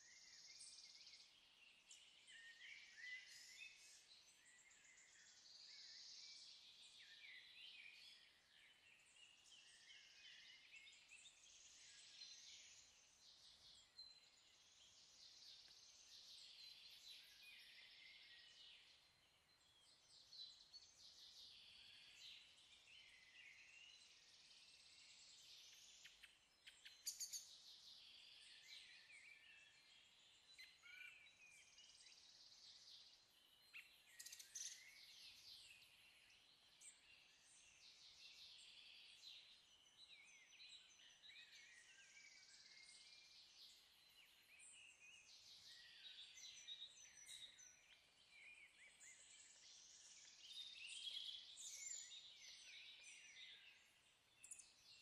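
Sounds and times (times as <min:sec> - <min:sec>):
many birds chirping and trilling: 0:00.0 - 0:55.0.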